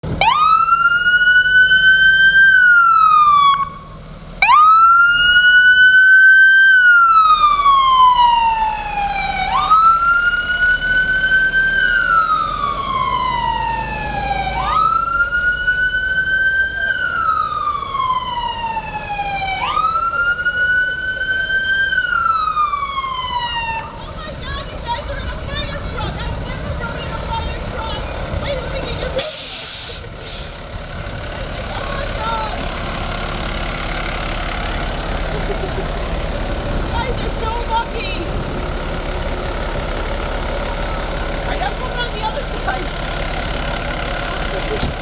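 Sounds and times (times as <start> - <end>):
fire truck siren wailing: 0.0 - 45.0.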